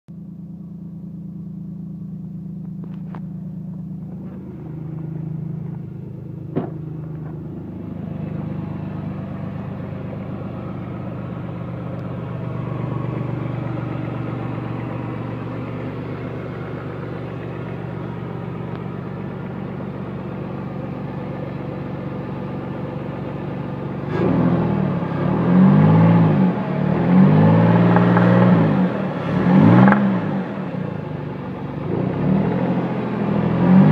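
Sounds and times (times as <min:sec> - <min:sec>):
car engine idling: 0:00.1 - 0:33.9
car engine revving: 0:00.5 - 0:33.9.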